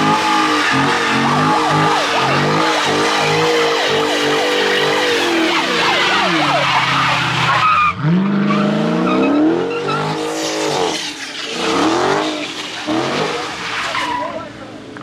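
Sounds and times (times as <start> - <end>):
car engine revving: 0.0 - 15.0
tires skidding on pavement: 0.0 - 15.0.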